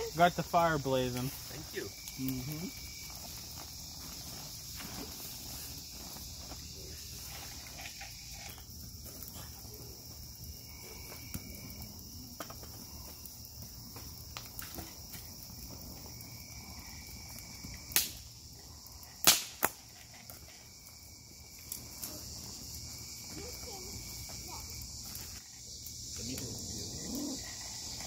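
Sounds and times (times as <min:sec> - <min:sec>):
insects humming: 0:00.0 - 0:28.0
sharp pops from fire: 0:00.0 - 0:28.0
wood fire crackling: 0:00.0 - 0:28.0.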